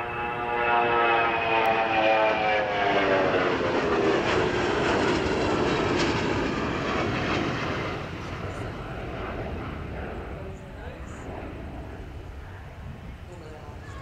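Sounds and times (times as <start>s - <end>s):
jet engines whining: 0.0s - 14.0s
jet roar: 0.0s - 14.0s.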